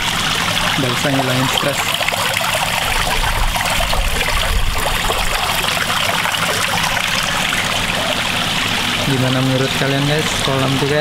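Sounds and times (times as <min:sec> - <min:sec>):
low steady hum: 0:00.0 - 0:11.0
water trickling into pond: 0:00.0 - 0:11.0.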